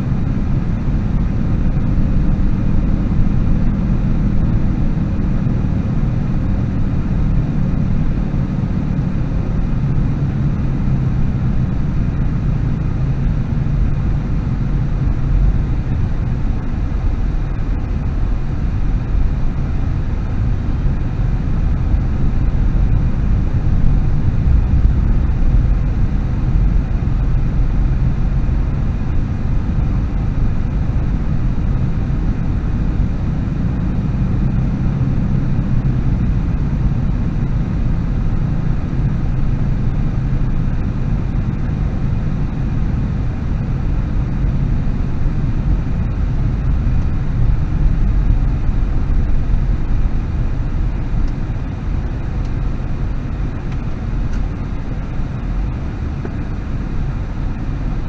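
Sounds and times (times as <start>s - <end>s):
car engine rumble: 0.0s - 58.0s
tyres on road: 0.0s - 58.0s.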